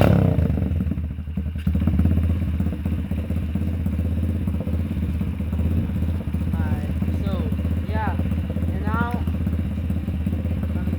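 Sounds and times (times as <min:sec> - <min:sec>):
dirt bike engine idling: 0:00.0 - 0:10.9.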